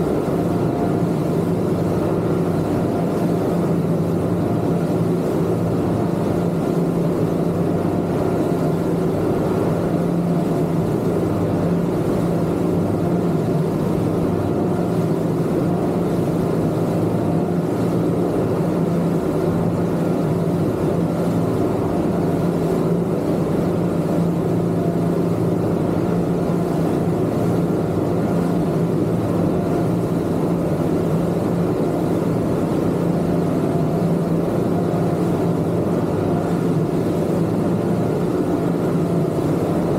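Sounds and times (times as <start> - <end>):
outboard motors humming: 0.0 - 39.9.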